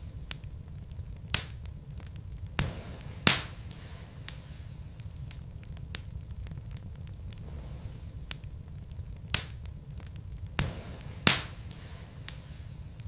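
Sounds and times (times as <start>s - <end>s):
logs crackling in fire: 0.0s - 13.0s
low fire rumble: 0.0s - 13.0s
sharp fire pops: 0.0s - 13.0s.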